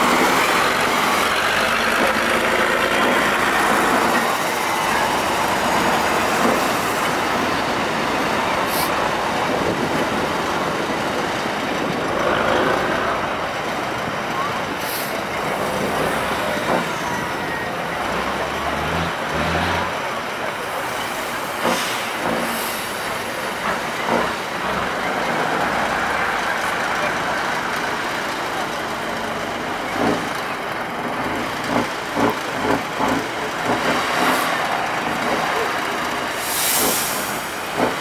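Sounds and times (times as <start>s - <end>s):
diesel truck engine under load: 0.0s - 38.0s.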